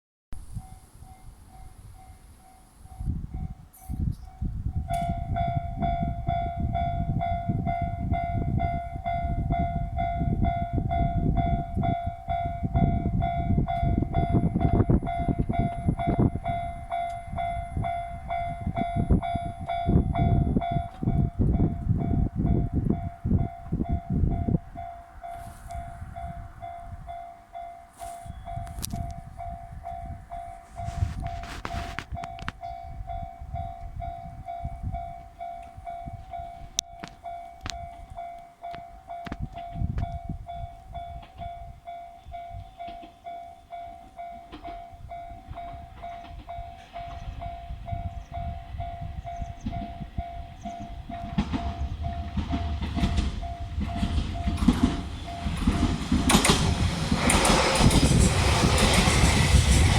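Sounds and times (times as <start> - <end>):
train rumbling: 0.4 - 59.9
level-crossing alarms clanging: 4.8 - 59.9.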